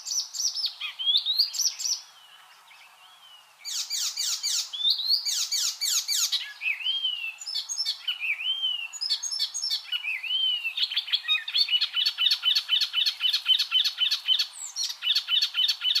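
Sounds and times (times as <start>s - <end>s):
warbler singing: 0.0s - 16.0s.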